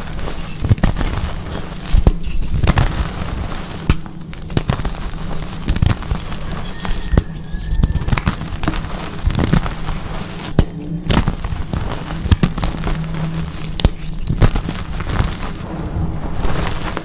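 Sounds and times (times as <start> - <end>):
chalk blocks crunching: 0.0 - 15.7.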